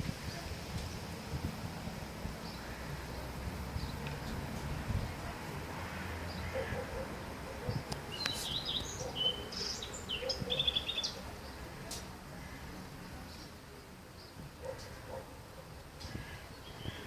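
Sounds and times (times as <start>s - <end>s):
low background noise: 0.0s - 17.0s
songbird chirping and trilling: 2.4s - 17.0s.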